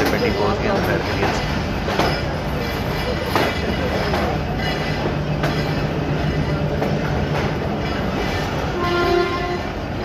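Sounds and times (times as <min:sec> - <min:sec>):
train rumbling on track: 0:00.0 - 0:10.0
wheels clacking: 0:00.0 - 0:10.0.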